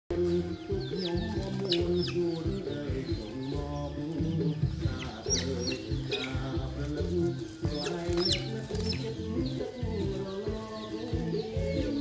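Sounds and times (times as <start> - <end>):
background music with low notes: 0.1 - 12.0
chickens chirping: 0.1 - 12.0.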